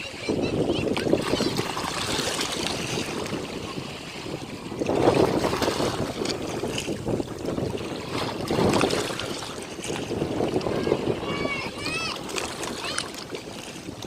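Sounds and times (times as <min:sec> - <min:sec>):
ocean waves washing ashore: 0:00.0 - 0:14.0.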